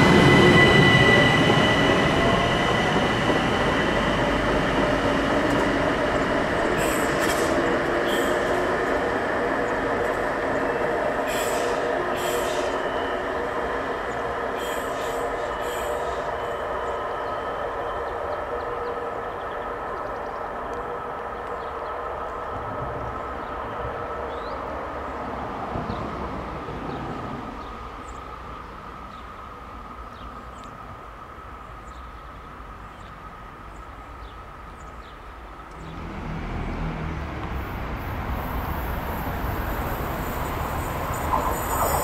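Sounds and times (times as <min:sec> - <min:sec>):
train rumbling with faint whine: 0:00.0 - 0:42.0.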